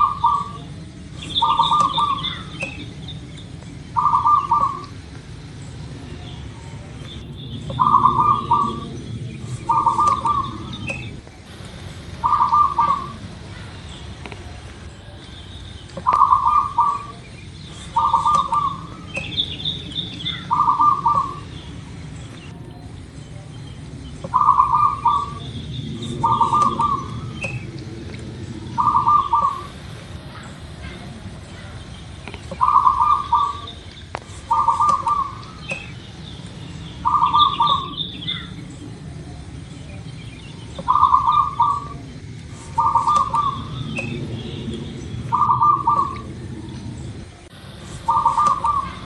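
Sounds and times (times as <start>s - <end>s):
dove cooing: 0.0s - 49.0s.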